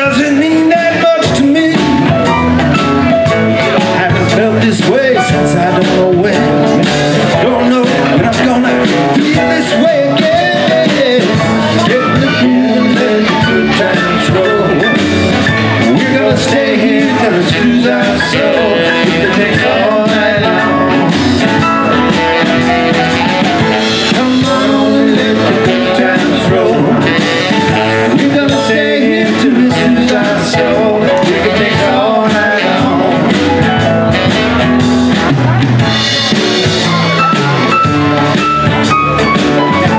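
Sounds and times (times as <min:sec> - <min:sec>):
live blues-rock band: 0:00.0 - 0:39.9.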